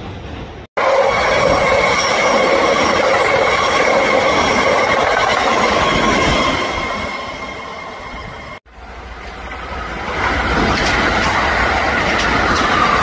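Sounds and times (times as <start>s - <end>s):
train running: 0.0s - 13.0s
wheels squealing on rails: 0.8s - 13.0s.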